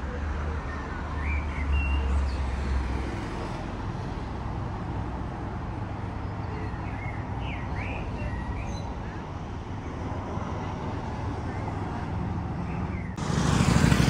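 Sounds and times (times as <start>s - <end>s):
road traffic hum: 0.0s - 14.0s.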